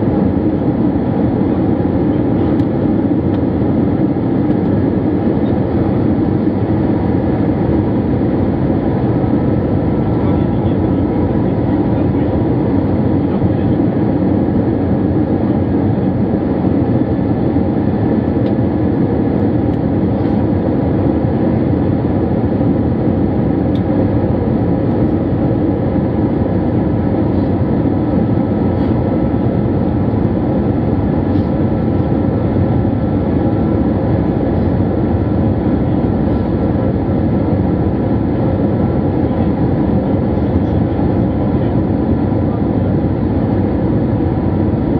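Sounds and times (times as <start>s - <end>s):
airplane engine drone and airflow: 0.0s - 44.9s.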